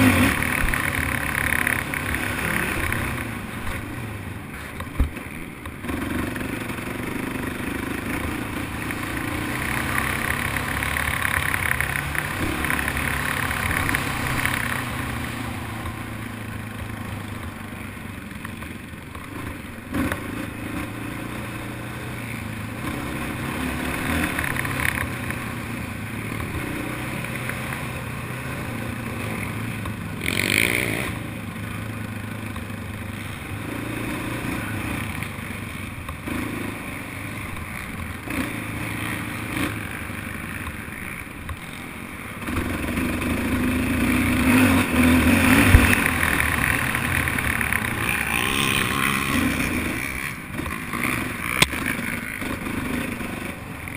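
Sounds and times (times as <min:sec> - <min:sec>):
quad bike engines revving: 0:00.0 - 0:53.9.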